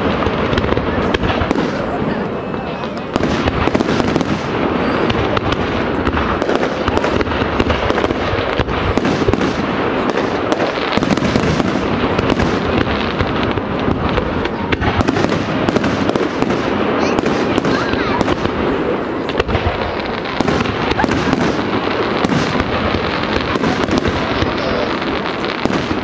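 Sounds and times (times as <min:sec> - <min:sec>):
fireworks bursting with sharp bangs: 0:00.0 - 0:26.0.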